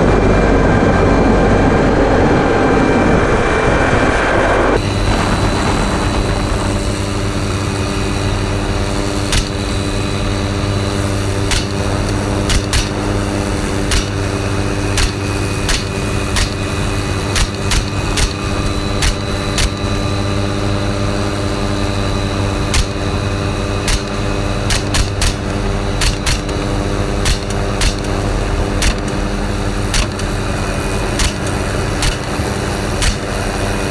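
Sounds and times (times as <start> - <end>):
helicopter turbine and rotor: 0.0 - 33.9.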